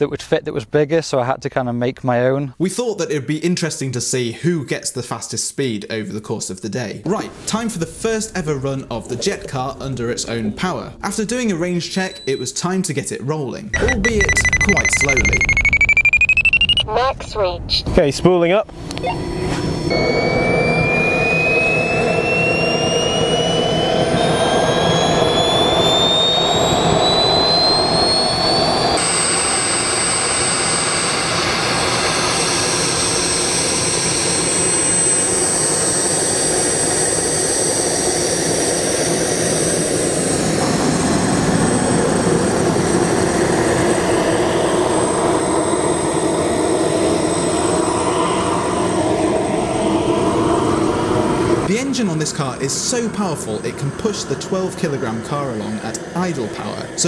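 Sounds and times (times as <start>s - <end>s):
gas turbine whine: 5.9s - 57.0s
jet exhaust rushing: 7.0s - 12.8s, 13.7s - 57.0s.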